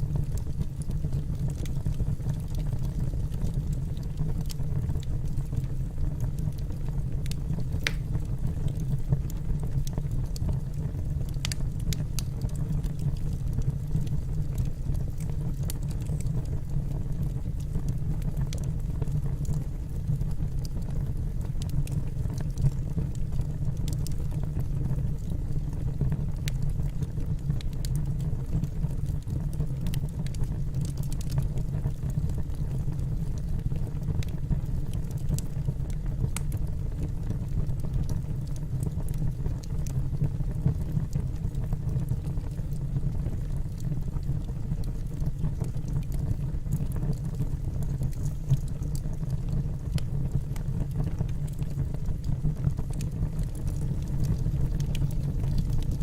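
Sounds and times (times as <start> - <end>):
fire rumbling: 0.0 - 56.0
logs crackling and popping: 0.1 - 56.0.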